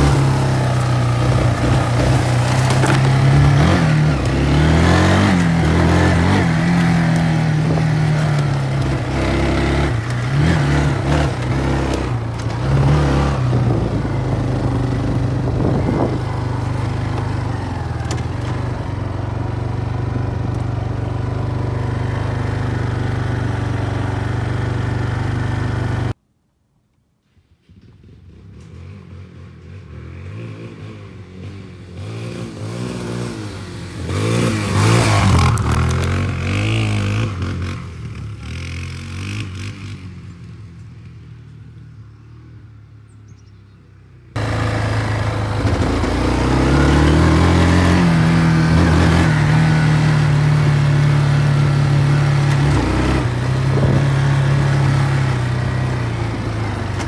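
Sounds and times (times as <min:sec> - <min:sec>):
atv engine running with rattle: 0:00.0 - 0:26.2, 0:32.0 - 0:57.0
engine revving: 0:00.0 - 0:26.2, 0:28.1 - 0:40.1, 0:44.3 - 0:57.0.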